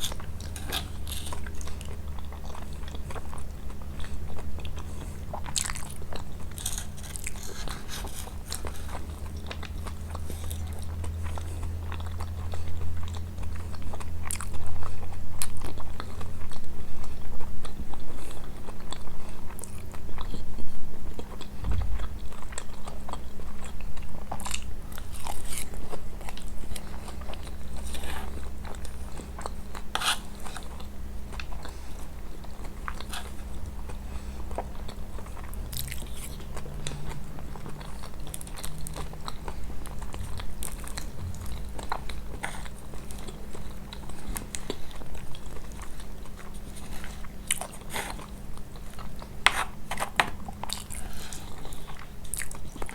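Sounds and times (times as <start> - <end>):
chewing and crunching pastry: 0.0 - 52.9
low steady hum: 0.0 - 52.9.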